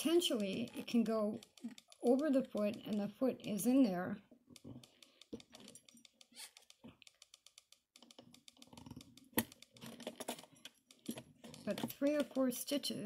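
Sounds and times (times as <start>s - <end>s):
sewing machine clicking: 0.0s - 3.9s, 4.5s - 12.8s.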